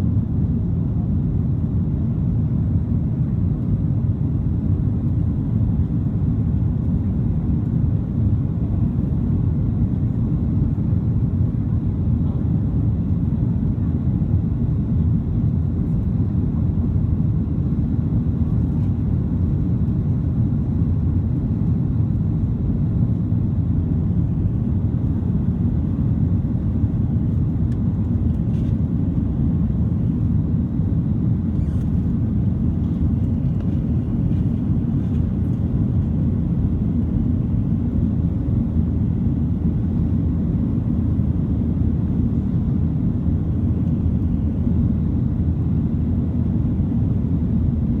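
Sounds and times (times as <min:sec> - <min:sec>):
jet engine rumble in cabin: 0:00.0 - 0:48.0.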